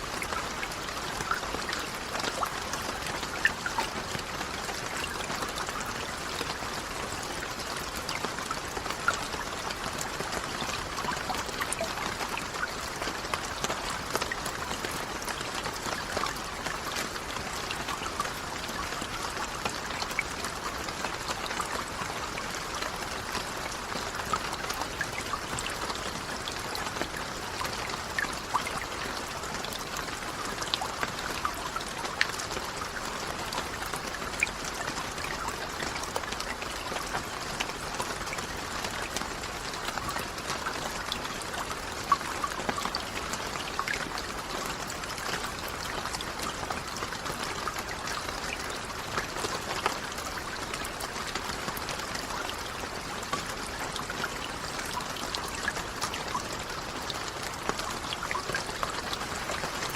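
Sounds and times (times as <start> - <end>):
raindrops ticking: 0.0 - 59.9.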